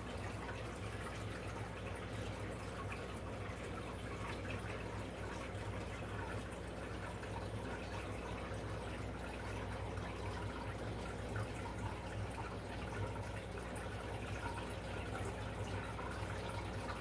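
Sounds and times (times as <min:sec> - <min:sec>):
filter low hum: 0:00.0 - 0:17.0
water trickling: 0:00.0 - 0:17.0.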